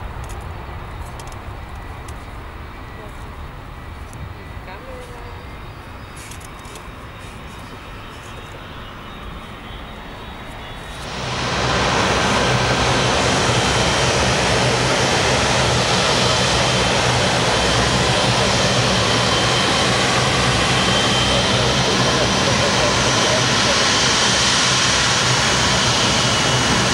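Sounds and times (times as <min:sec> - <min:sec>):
faint jet airliner climbing: 0:00.0 - 0:26.9
jet engines running: 0:00.0 - 0:26.9.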